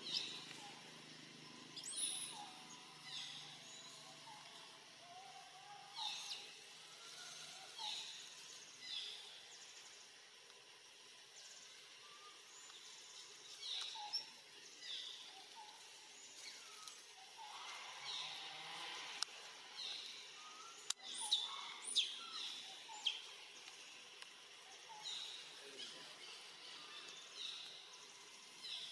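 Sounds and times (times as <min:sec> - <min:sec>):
faint outdoor background noise: 0:00.0 - 0:28.9.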